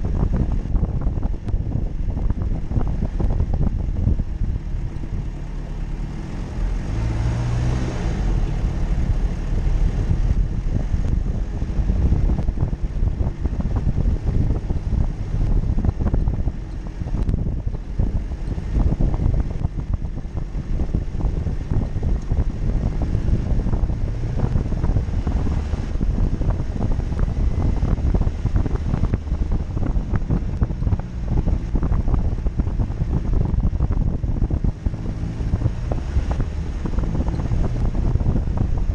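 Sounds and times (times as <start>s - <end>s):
off-road vehicle engine: 0.0s - 38.9s
wind buffeting microphone: 0.0s - 38.9s.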